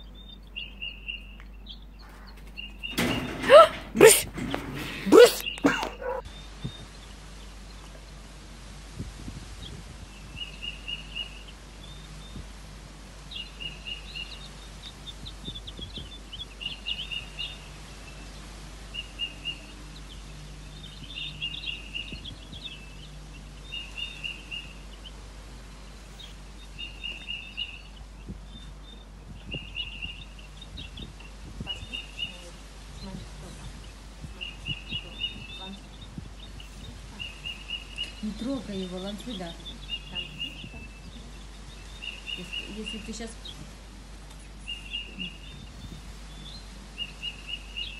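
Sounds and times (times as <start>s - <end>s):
higher bird chirps: 0.0s - 47.9s
songbird calling: 0.0s - 47.9s.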